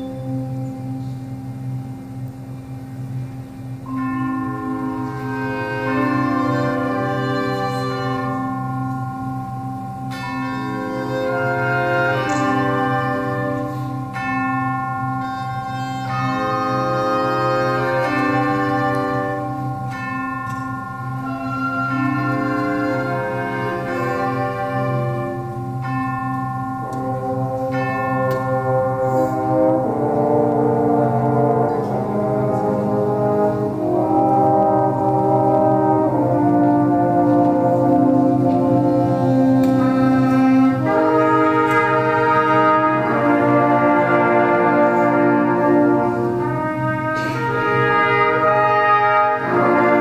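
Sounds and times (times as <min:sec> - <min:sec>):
concert band playing chords: 0:00.0 - 0:50.0.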